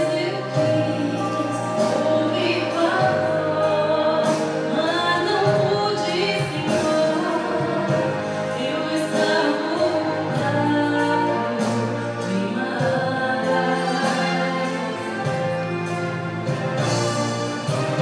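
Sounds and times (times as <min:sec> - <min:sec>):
woman singing gospel song: 0:00.0 - 0:15.6
instrumental accompaniment: 0:00.0 - 0:18.0.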